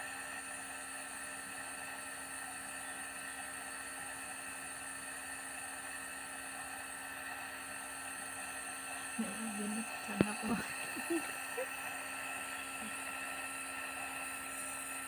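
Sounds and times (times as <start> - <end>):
nebulizer motor hum: 0.0 - 15.0.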